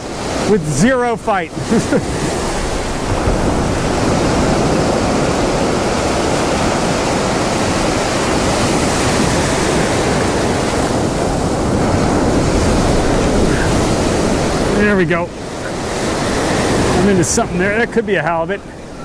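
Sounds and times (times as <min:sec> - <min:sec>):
ocean surf breaking: 0:00.0 - 0:19.0
wind rumbling on microphone: 0:00.0 - 0:19.0.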